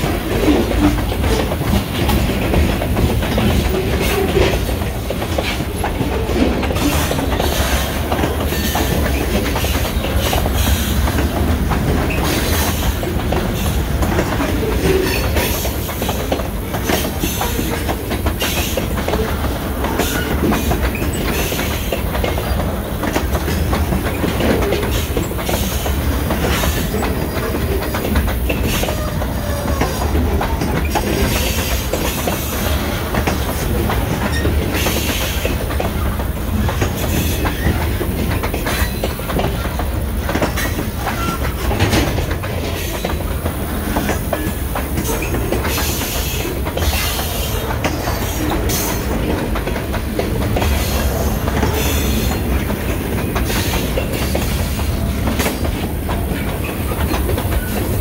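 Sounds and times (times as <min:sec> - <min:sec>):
freight train rumble: 0:00.0 - 0:58.0
wheels clicking on rails: 0:00.0 - 0:58.0.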